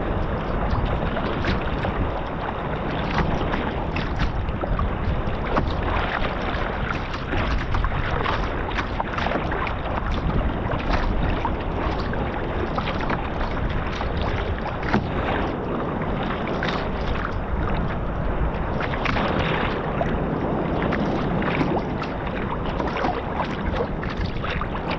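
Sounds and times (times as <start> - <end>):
water splashing against hull: 0.0 - 24.9
wind buffeting microphone: 0.0 - 24.9.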